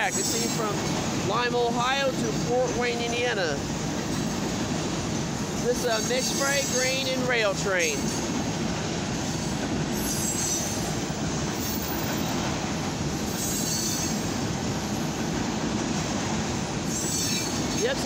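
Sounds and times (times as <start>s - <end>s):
steel wheels on rails: 0.0s - 18.0s.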